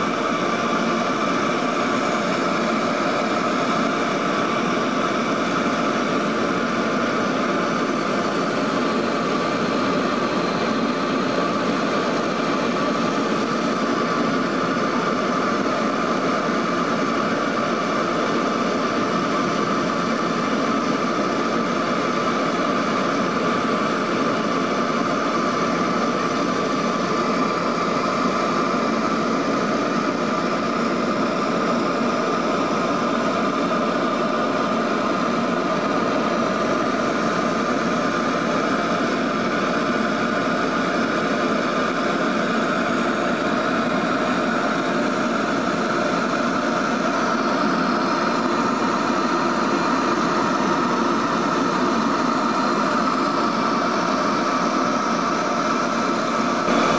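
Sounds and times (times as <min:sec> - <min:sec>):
turboprop engines droning: 0:00.0 - 0:56.9.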